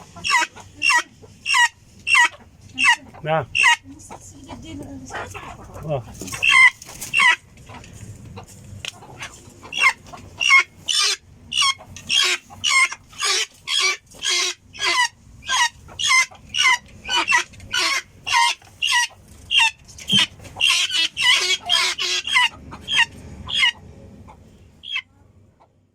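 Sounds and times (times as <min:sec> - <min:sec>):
guineafowl calling: 0:00.0 - 0:07.8, 0:08.4 - 0:25.7.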